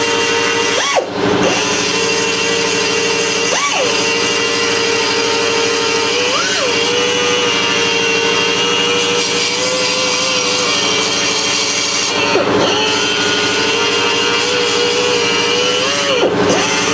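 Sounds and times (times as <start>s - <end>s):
die grinder whining: 0.0s - 16.9s.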